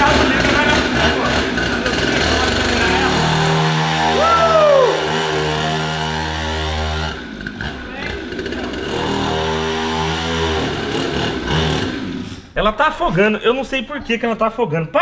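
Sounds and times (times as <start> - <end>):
small two-stroke engine running: 0.0 - 12.5.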